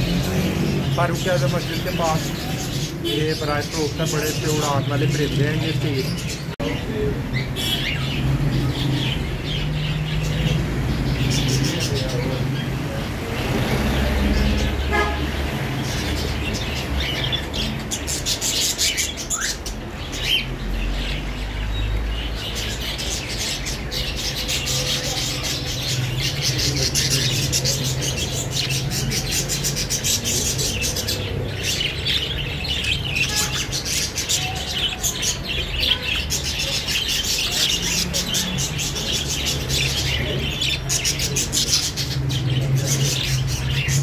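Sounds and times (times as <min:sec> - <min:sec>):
budgerigars chirping: 0:00.0 - 0:44.0.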